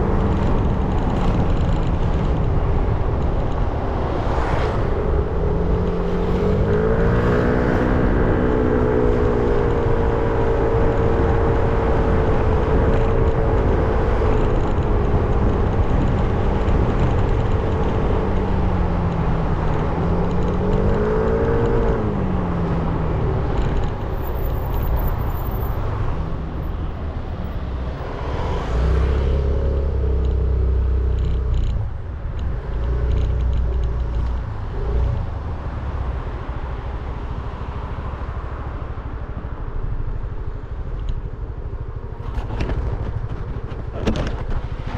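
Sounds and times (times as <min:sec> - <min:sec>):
wind rush on microphone: 0:00.0 - 0:44.9.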